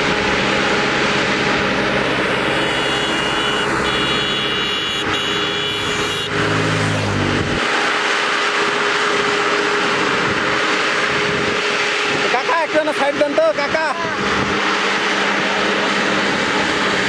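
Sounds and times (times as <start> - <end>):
harvester engine and machinery: 0.0 - 17.0
high whine: 0.0 - 17.0.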